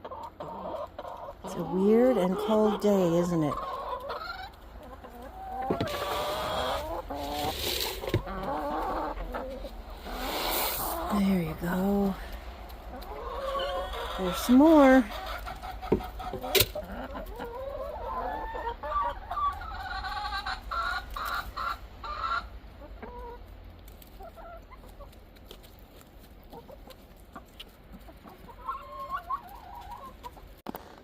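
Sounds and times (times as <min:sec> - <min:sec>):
hens clucking: 0:00.0 - 0:30.9.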